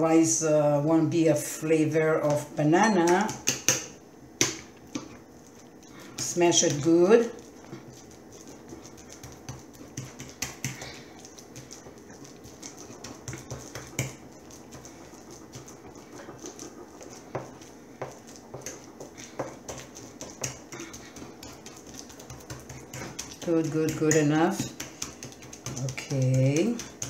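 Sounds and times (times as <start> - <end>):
fork mashing banana: 1.8 - 27.0.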